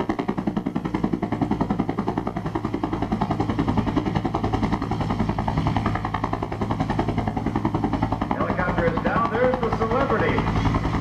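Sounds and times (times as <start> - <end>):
helicopter rotor whopping: 0.0 - 11.0
turbine hum: 0.0 - 11.0.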